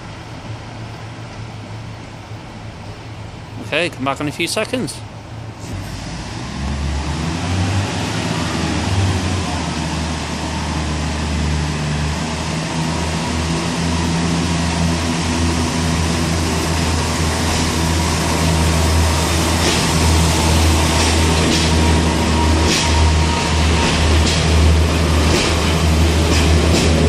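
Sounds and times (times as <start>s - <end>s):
diesel train engine humming: 0.0s - 27.0s.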